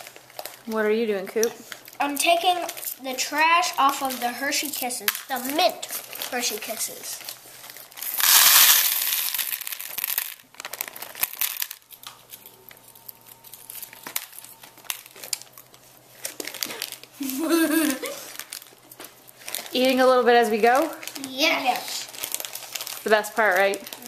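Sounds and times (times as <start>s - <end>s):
candy wrappers crinkling: 0.0s - 24.0s.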